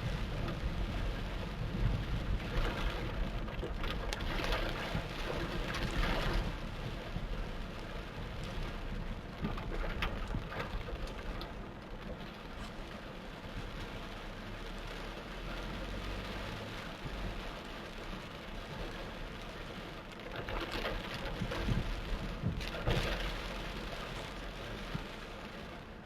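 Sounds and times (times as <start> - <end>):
torrential rain pouring: 0.0 - 26.0.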